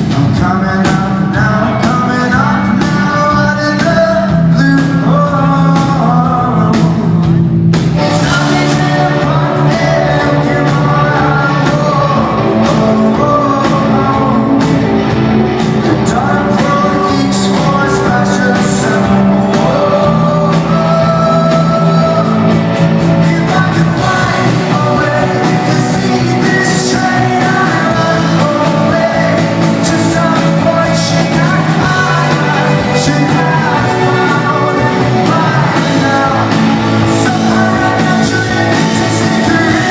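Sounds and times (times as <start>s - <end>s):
lead singer's voice: 0.0s - 39.9s
live rock band playing: 0.0s - 39.9s.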